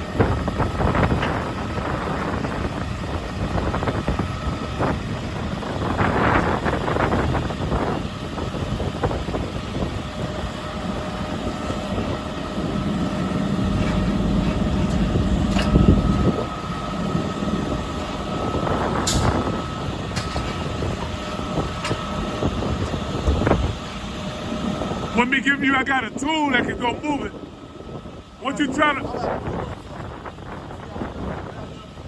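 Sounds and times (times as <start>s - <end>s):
dump truck engine rumbling: 0.0s - 32.0s
faint steady whine: 0.0s - 32.0s.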